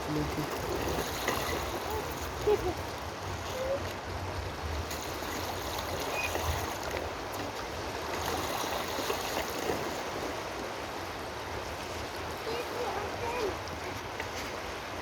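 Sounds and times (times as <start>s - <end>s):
water flowing in a stream: 0.0s - 15.0s.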